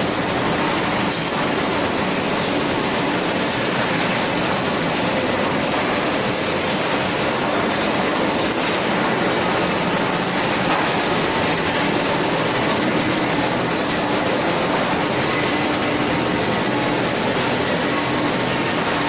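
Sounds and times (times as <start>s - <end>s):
machinery steady mechanical noise: 0.0s - 19.0s.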